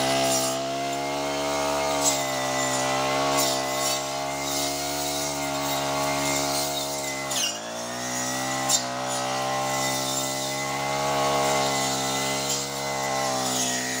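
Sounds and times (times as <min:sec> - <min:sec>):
brush cutter engine running: 0:00.0 - 0:14.0.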